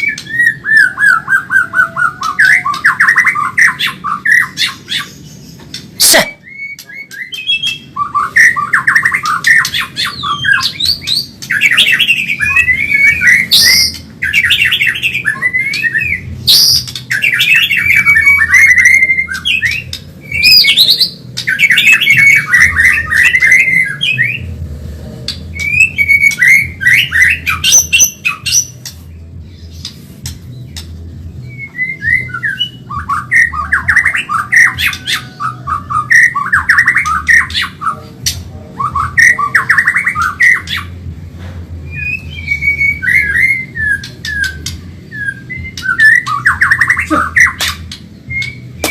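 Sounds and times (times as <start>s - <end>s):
songbird singing trills and whistles: 0.0s - 24.6s, 25.4s - 41.1s, 41.8s - 48.9s.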